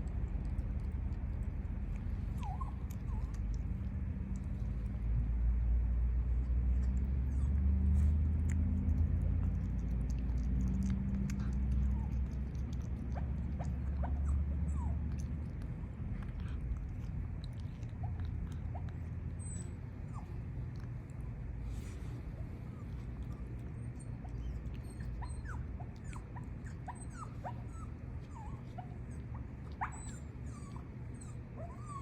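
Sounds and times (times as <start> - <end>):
cat chewing: 0.0 - 31.1
steady low hum: 0.0 - 32.0.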